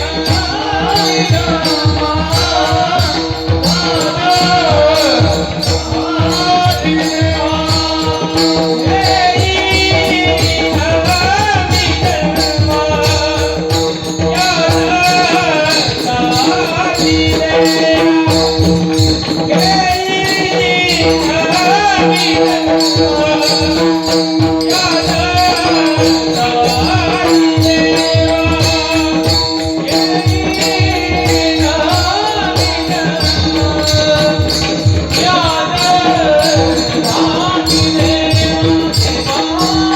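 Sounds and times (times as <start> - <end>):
jingling hand percussion: 0.0 - 39.9
man singing devotional song: 0.0 - 39.9.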